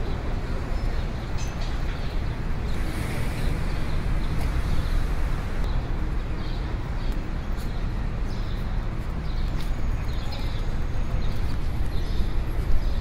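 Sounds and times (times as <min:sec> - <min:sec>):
muffled street traffic: 0:00.0 - 0:13.0.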